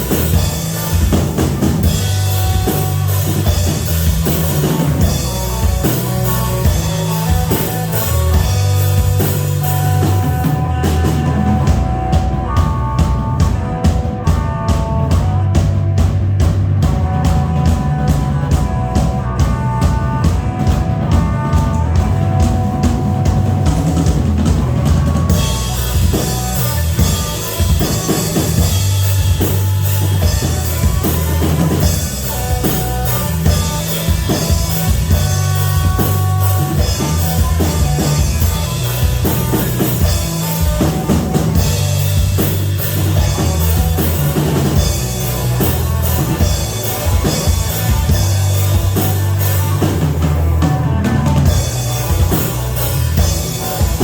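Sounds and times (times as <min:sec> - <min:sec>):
drum kit kick and snare: 0:00.0 - 0:54.0
live rock band playing: 0:00.0 - 0:54.0.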